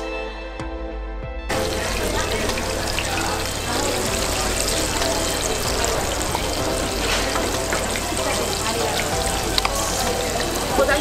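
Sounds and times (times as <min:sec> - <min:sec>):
background music: 0:00.0 - 0:11.0
pancakes sizzling in hot oil: 0:01.5 - 0:11.0.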